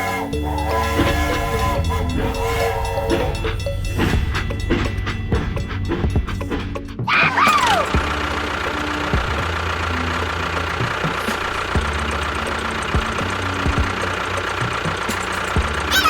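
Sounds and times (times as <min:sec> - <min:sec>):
small engine chugging: 0:00.0 - 0:16.0.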